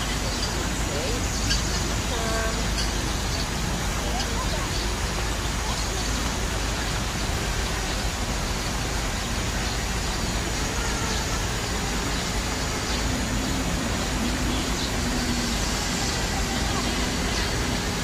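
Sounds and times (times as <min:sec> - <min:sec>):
outdoor background hiss and hum: 0:00.0 - 0:18.0.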